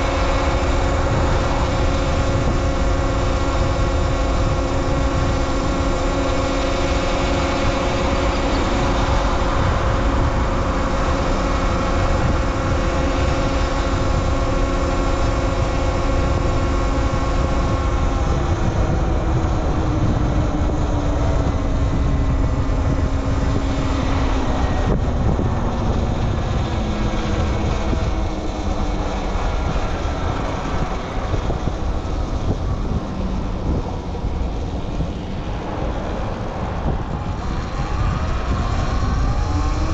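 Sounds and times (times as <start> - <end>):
electric motorbike motor whining: 0.0 - 39.9
wind noise: 0.0 - 39.9.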